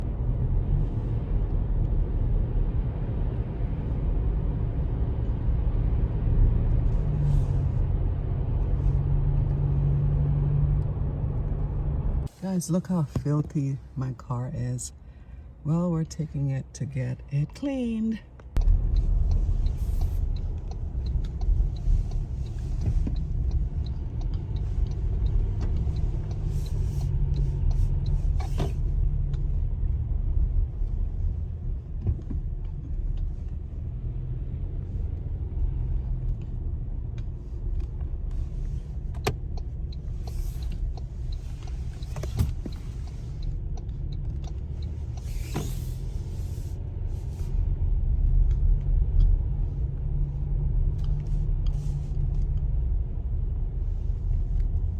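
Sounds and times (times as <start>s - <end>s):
engine and road rumble: 0.0s - 54.9s.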